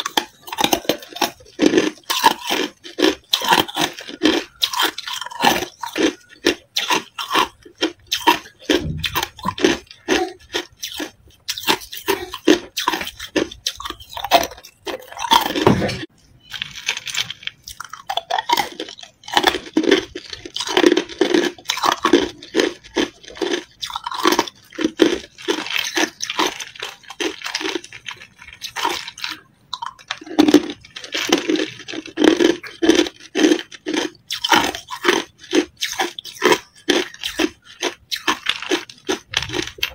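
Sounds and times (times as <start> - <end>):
ice cubes crunching in mouth: 0.0 - 39.9.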